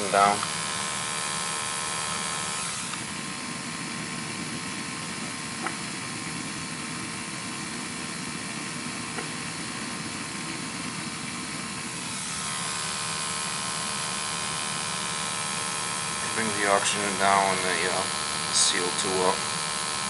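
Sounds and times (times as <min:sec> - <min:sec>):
gas boiler whirring and rushing: 0:00.0 - 0:20.0
sampling pump running: 0:00.0 - 0:20.0.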